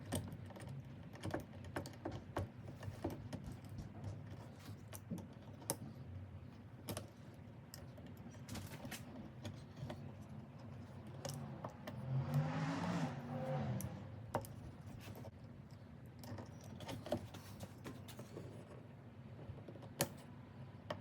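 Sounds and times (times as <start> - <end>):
faint low background hum: 0.0 - 21.0.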